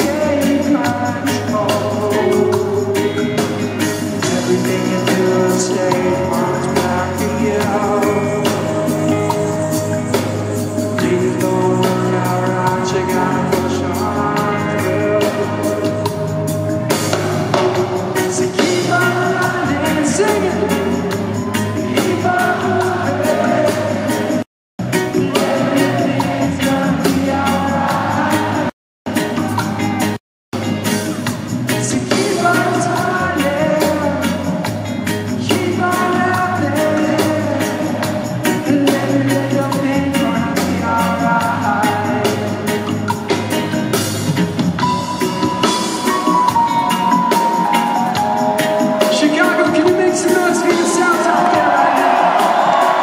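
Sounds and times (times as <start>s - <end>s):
man singing lead vocal: 0.0s - 30.2s, 31.7s - 43.8s, 44.8s - 53.0s
bass guitar: 0.0s - 53.0s
drums keeping a steady beat: 0.0s - 53.0s
electric guitar: 0.0s - 53.0s
live reggae band playing: 0.0s - 53.0s.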